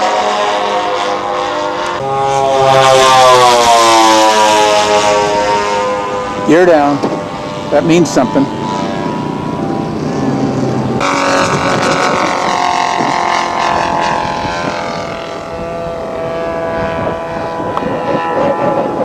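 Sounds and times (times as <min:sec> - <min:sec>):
model airplane engine: 0:00.0 - 0:19.0.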